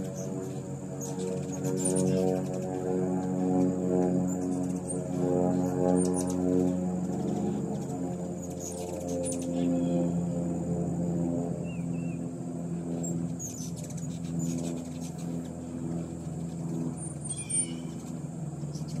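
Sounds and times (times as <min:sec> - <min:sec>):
hummingbird wings humming: 0:00.0 - 0:19.0.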